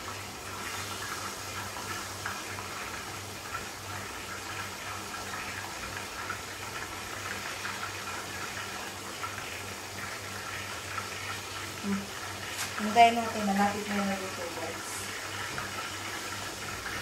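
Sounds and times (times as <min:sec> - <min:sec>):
oil crackling and popping: 0:00.0 - 0:14.0
chicken frying in oil: 0:00.0 - 0:17.0.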